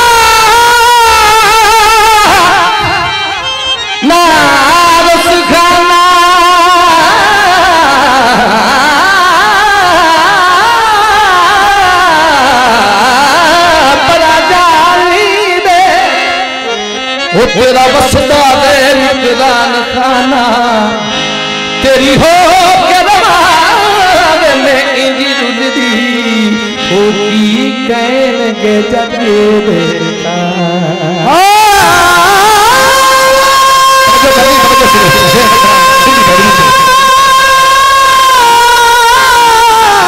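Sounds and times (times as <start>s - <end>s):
man singing into a microphone: 0.0s - 40.0s
musical accompaniment: 0.0s - 40.0s.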